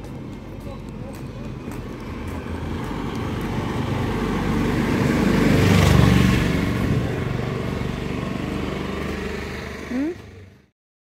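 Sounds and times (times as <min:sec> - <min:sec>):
motor vehicle driving past: 0:00.0 - 0:10.7.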